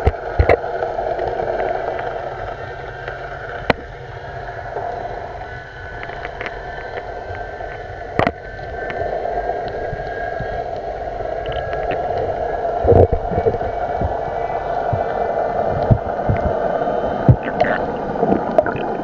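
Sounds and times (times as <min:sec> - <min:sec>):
faint steady tones: 0:00.0 - 0:19.0
muffled underwater drone: 0:00.0 - 0:19.0.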